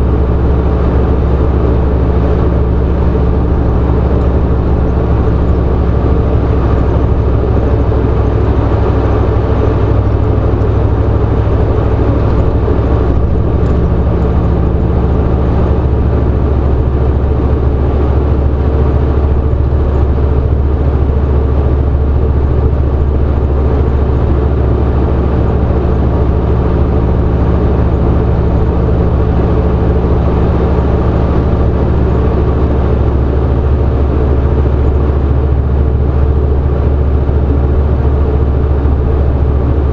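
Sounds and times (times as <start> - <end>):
motor vehicle engine droning: 0.0 - 39.9.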